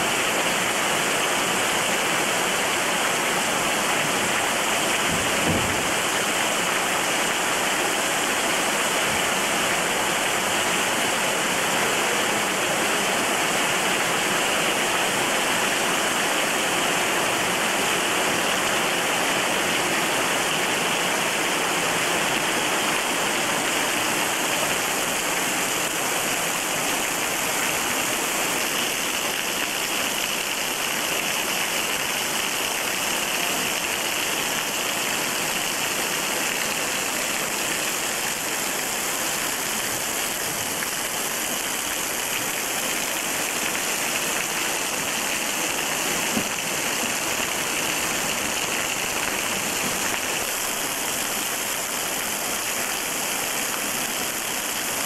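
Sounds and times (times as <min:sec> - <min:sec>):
waterfall pouring onto rocks: 0:00.0 - 0:55.0.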